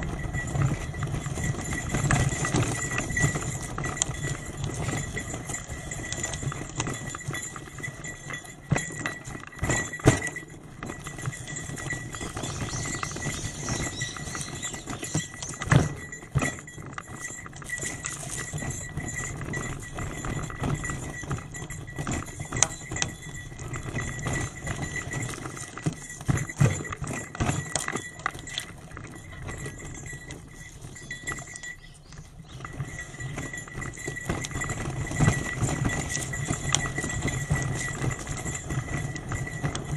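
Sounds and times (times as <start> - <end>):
bicycle rattling over rough road: 0.0 - 39.9.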